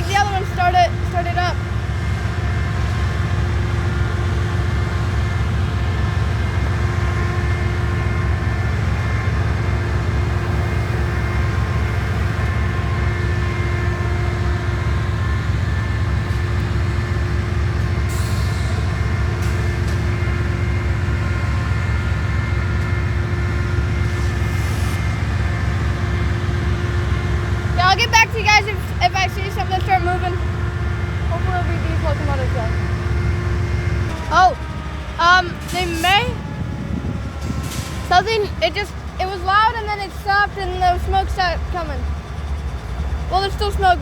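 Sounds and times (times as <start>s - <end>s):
locomotive engine idling: 0.0s - 44.0s.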